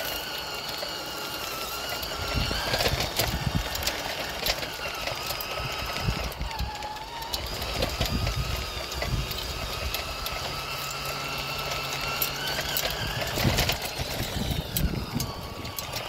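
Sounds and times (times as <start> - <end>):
small clicks and ticks: 0.0 - 16.0
small electric motor whining: 0.0 - 16.0.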